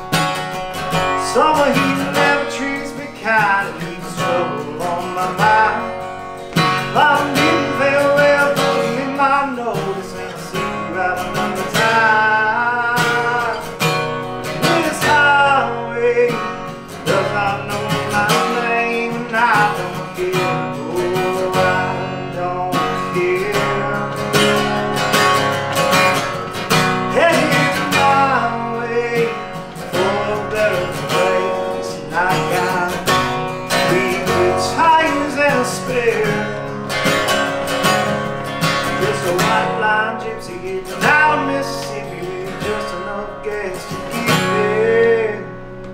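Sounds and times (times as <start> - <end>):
acoustic guitar strumming: 0.0 - 45.9
man singing: 0.9 - 45.9.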